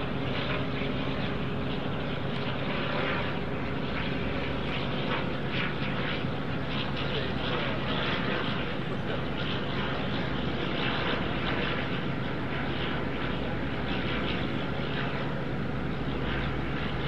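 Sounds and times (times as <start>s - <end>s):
turboprop plane droning past: 0.0s - 17.0s.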